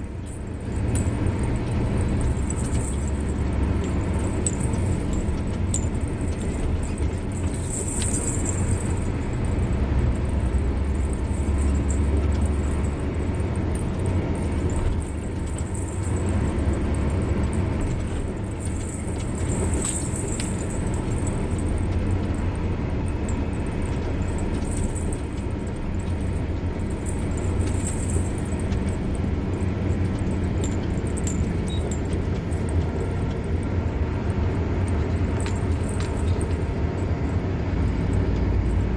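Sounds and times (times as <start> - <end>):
car engine and tyres rumbling: 0.0 - 38.9
faint high ticks and rattles: 0.1 - 38.9.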